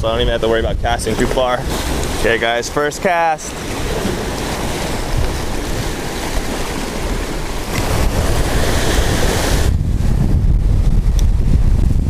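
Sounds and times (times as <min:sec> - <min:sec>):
wind buffeting microphone: 0:00.0 - 0:12.0
surf breaking on rocks: 0:00.4 - 0:12.0.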